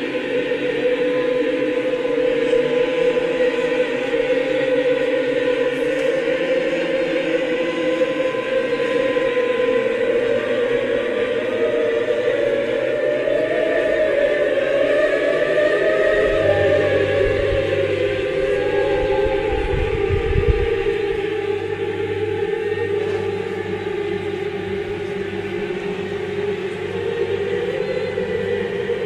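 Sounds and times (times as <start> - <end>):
choir holding sustained notes: 0.0 - 29.0.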